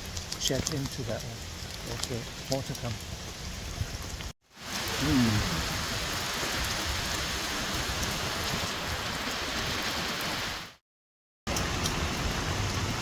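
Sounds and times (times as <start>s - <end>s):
heavy rain pouring: 0.0s - 10.8s, 11.5s - 13.0s.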